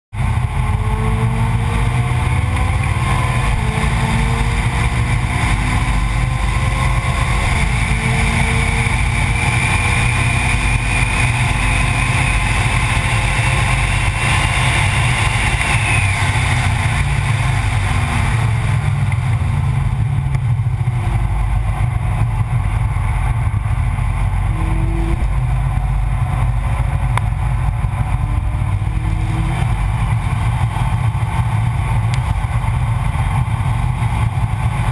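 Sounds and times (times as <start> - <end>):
low wind rumble: 0.1 - 34.9
engine revving with gear changes: 0.2 - 34.9.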